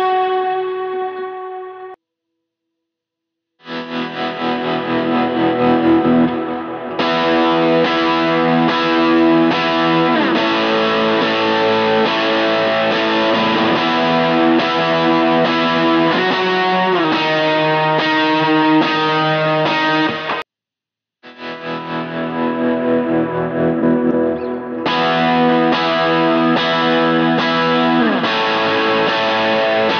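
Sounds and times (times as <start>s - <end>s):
electric guitar chords and melody: 0.0s - 2.0s, 3.6s - 20.4s, 21.2s - 29.9s.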